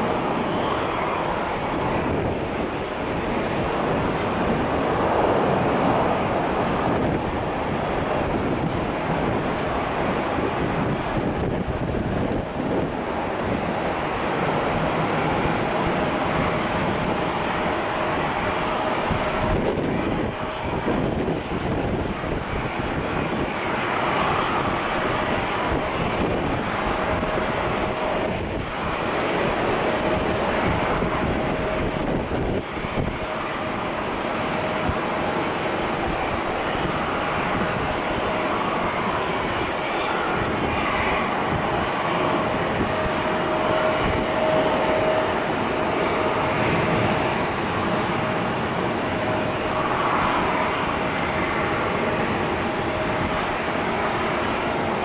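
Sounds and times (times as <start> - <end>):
faint steady whine: 0.0 - 55.0
jet engines rumbling in cabin: 0.0 - 55.0.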